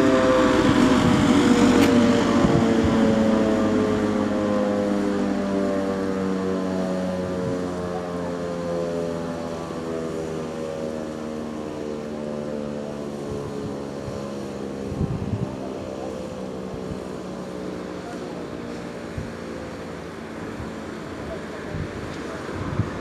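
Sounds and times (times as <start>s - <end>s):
fire siren winding down: 0.0s - 23.0s.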